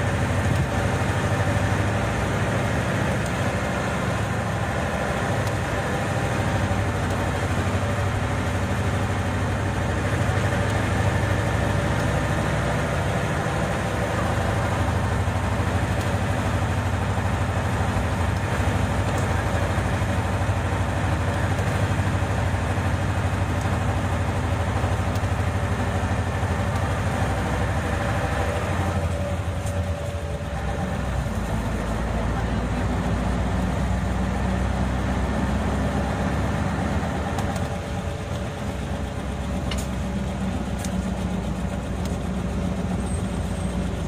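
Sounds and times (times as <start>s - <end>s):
bus engine humming: 0.0s - 44.0s
road noise: 0.0s - 44.0s.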